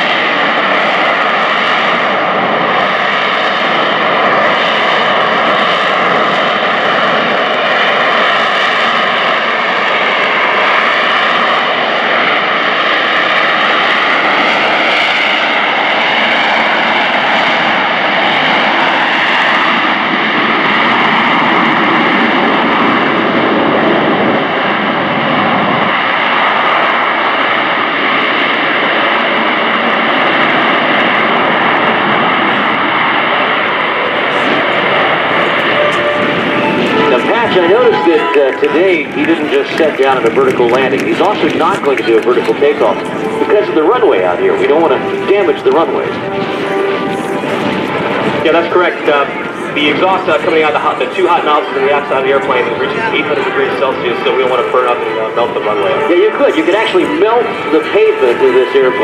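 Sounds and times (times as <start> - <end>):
high-pitched turbine whine: 0.0 - 59.0
jet engine roar: 0.0 - 59.0.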